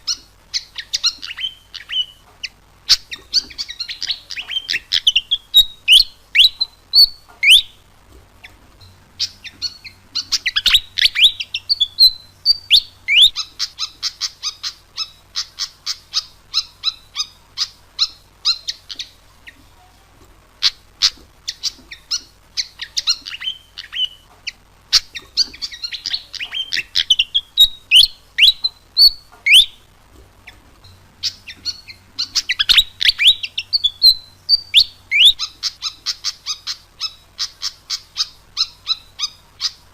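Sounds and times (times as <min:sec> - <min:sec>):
bird singing squeaky chirps and whistles: 0:00.0 - 0:07.8, 0:08.4 - 0:19.7, 0:20.6 - 0:39.9.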